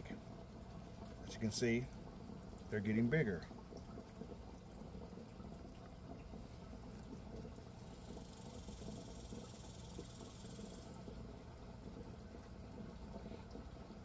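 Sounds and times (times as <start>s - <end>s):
water bubbling in fish tank: 0.0s - 14.0s.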